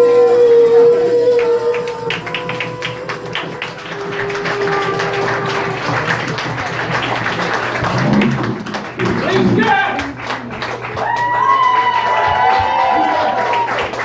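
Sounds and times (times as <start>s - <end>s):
crowd clapping along: 0.0s - 14.0s.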